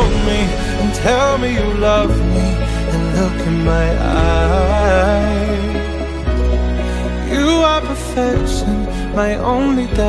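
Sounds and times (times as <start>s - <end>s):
low bass: 0.0s - 10.0s.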